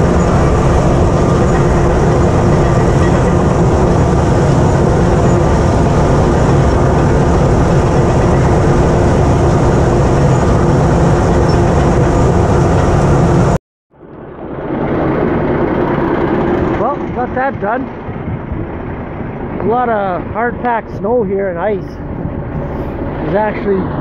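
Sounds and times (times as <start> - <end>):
bulldozer diesel engine running: 0.0 - 24.0
dull engine sound: 0.0 - 24.0.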